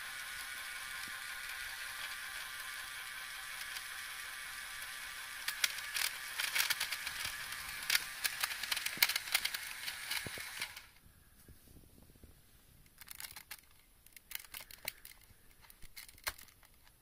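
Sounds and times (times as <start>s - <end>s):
toy motor and gears whirring: 0.0s - 11.0s, 13.0s - 17.0s.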